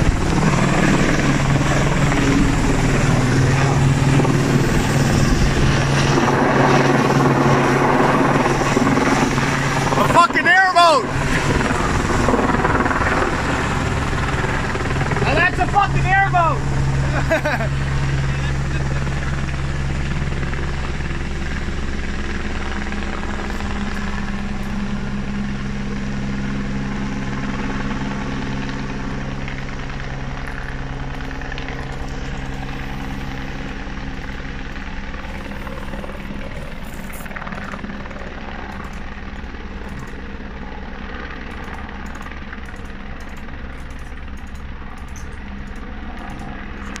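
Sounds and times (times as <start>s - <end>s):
helicopter rotor chop: 0.0s - 47.0s.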